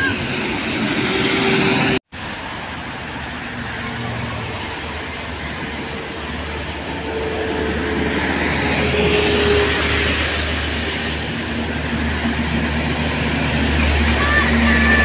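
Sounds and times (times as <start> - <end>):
heavy traffic of buses and trucks: 0.0 - 15.0.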